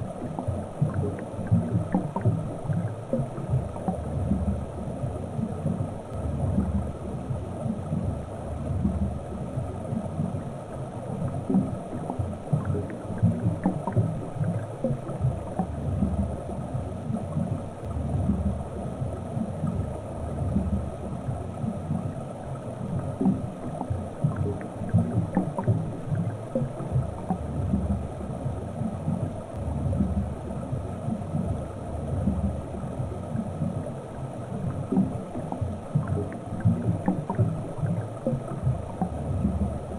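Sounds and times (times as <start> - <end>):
faint ticks: 0.0 - 39.9
underwater water rumbling: 0.0 - 39.9.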